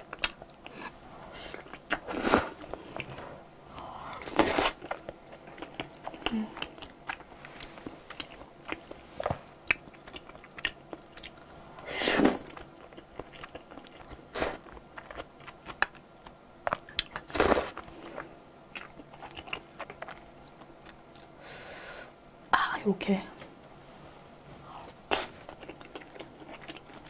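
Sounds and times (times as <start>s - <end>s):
wet chewing with mouth clicks: 0.0s - 3.2s, 3.8s - 11.5s, 12.2s - 21.4s, 25.1s - 27.0s.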